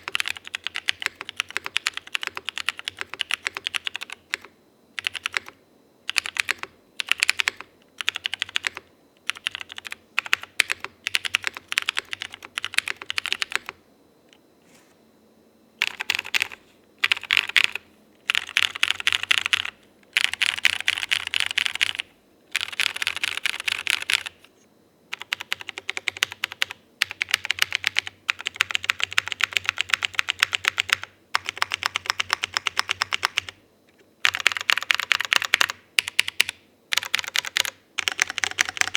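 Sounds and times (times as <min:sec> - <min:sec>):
fast mechanical keyboard typing: 0:00.0 - 0:13.8, 0:15.8 - 0:24.4, 0:25.1 - 0:33.6, 0:34.2 - 0:38.9.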